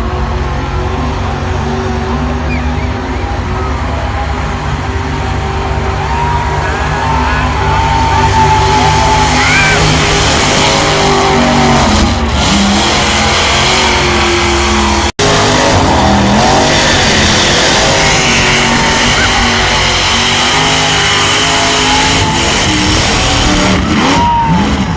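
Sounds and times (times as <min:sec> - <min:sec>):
truck engine at high revs: 0:00.0 - 0:24.9
tyres squealing: 0:01.6 - 0:24.9.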